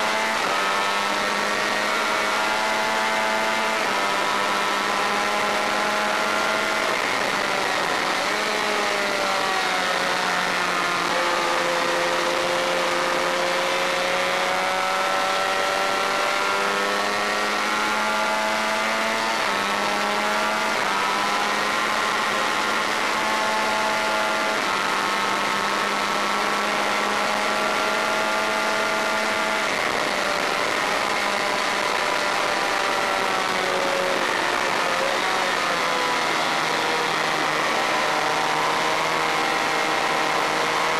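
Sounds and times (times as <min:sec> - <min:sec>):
motorcycle engine revving and shifting: 0:00.0 - 0:40.9.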